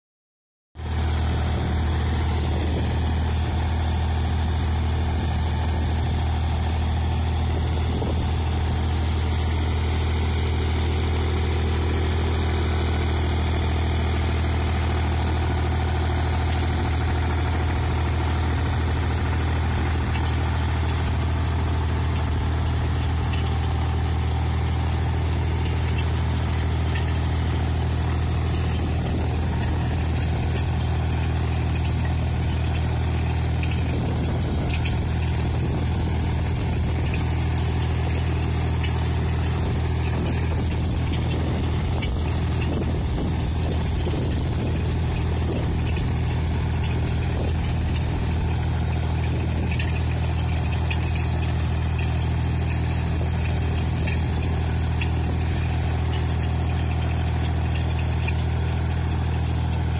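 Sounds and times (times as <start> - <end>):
tractor engine running: 0.8 - 59.9.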